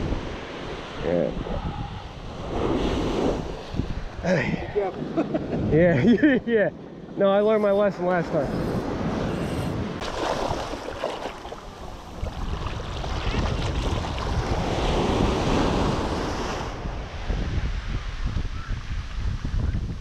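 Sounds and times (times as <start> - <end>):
small waves breaking on sand: 0.0 - 5.4, 7.2 - 18.2
wind buffeting microphone: 0.0 - 20.0.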